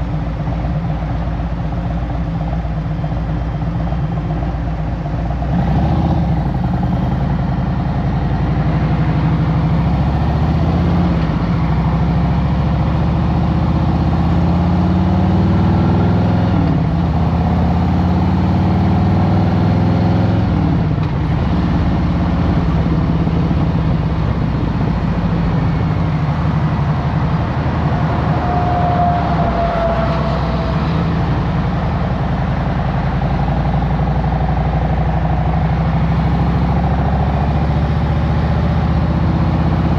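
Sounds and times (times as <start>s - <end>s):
motorcycle engine revving: 5.4s - 39.9s.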